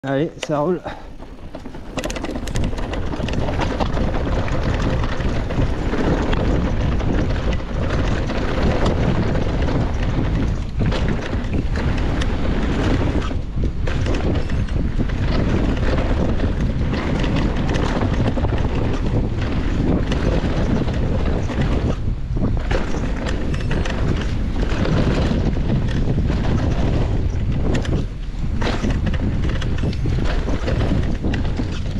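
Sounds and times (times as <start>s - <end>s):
bike knocking and rattling: 0.0s - 31.9s
wind buffeting microphone: 0.0s - 31.9s
bike tyres rumbling on dirt trail: 0.1s - 31.9s.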